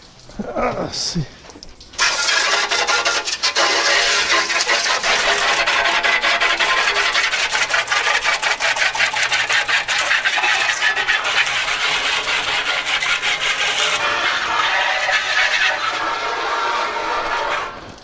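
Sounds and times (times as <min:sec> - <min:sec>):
scrubbing on metal: 0:00.1 - 0:18.0.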